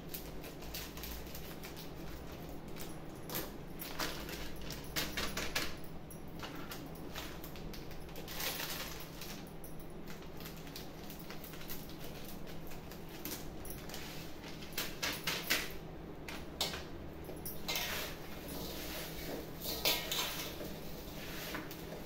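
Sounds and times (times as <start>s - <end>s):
crisp rustles of handling spices: 0.0s - 5.5s, 6.4s - 22.0s.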